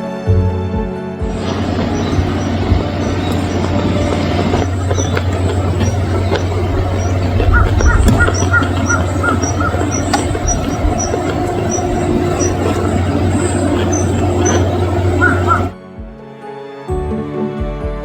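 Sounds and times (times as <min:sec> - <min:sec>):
machine engine rattling: 0:01.3 - 0:15.8.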